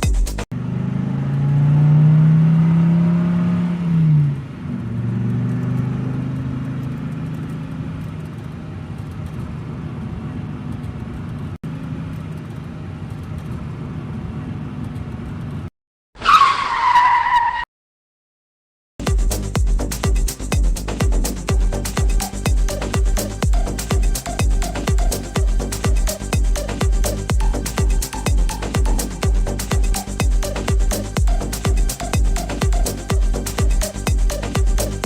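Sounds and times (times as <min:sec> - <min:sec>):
car engine droning: 0:00.0 - 0:15.6, 0:19.0 - 0:35.0.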